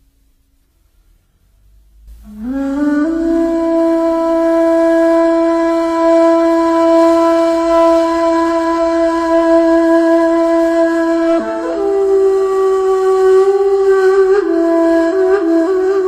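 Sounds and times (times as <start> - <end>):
reed flute playing: 2.2 - 16.0.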